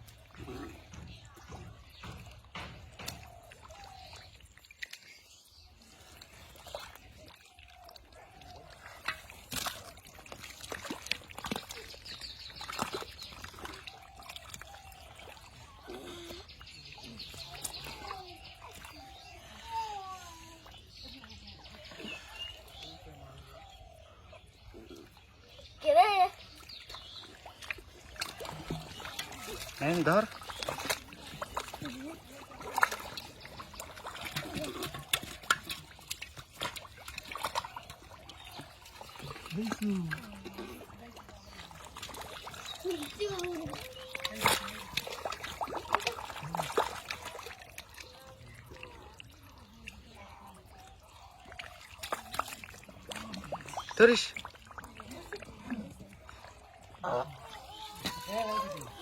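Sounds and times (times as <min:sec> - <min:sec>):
water splashing by hand: 0:00.0 - 0:59.0.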